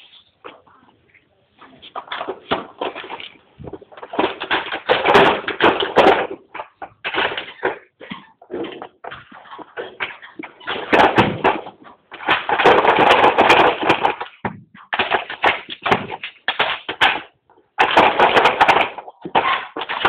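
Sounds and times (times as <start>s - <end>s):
plastic toy clattering on concrete: 1.7s - 20.0s.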